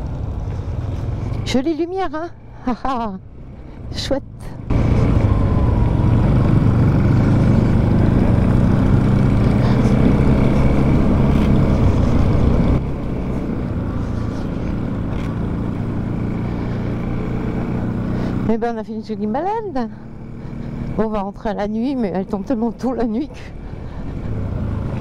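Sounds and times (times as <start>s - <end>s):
road noise: 0.0s - 25.0s
motorcycle engine running: 3.3s - 25.0s.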